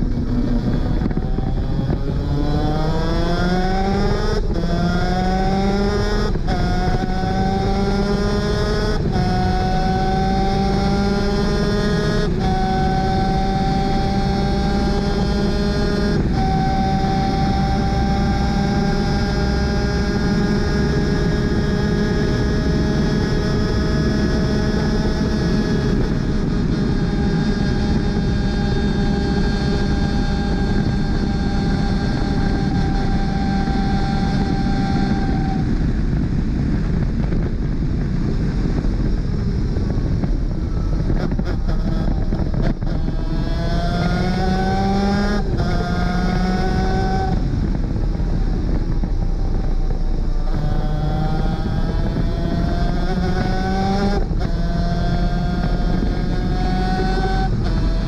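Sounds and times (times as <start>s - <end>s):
kart engine revving: 0.0s - 37.4s, 39.8s - 58.0s
wind rush: 0.0s - 58.0s.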